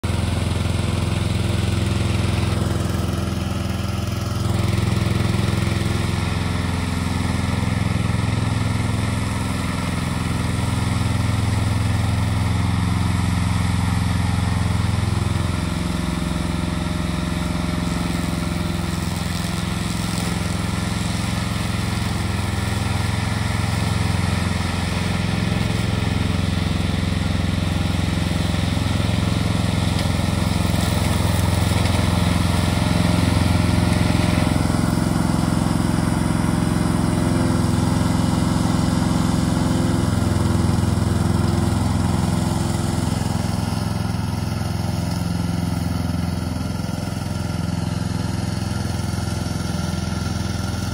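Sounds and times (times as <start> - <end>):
brush cutter mower running: 0.0 - 50.9.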